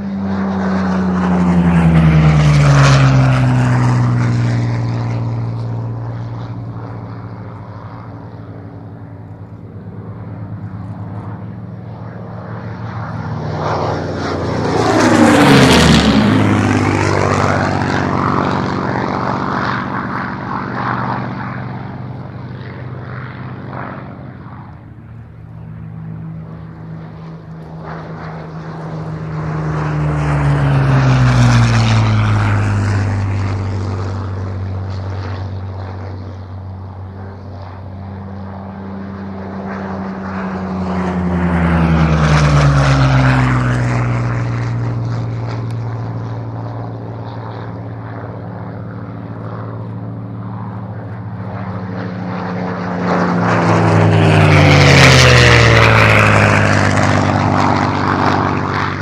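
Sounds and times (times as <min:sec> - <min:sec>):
propeller plane flyby: 0:00.0 - 0:59.0.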